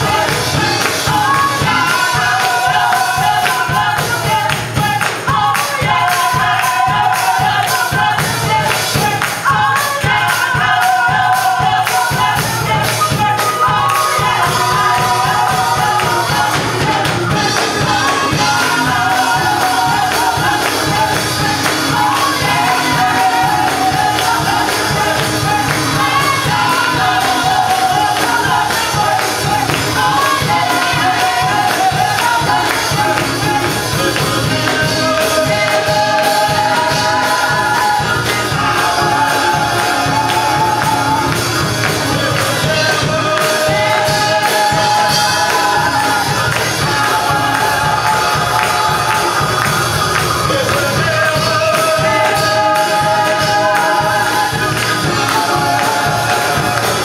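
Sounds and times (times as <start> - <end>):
driving beat: 0.0 - 57.0
hand clapping: 0.0 - 57.0
women singing gospel song: 0.0 - 57.0.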